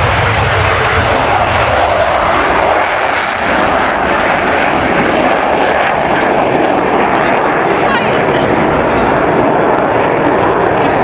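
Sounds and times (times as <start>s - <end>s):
aircraft engine in flight: 0.0s - 11.0s.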